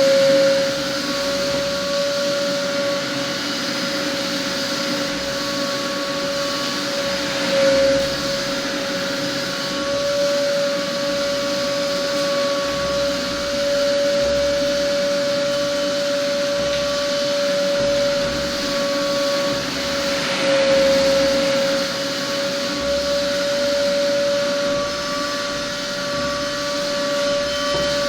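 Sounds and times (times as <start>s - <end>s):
air rushing through hose: 0.0s - 28.0s
vacuum motor whine: 0.0s - 28.0s.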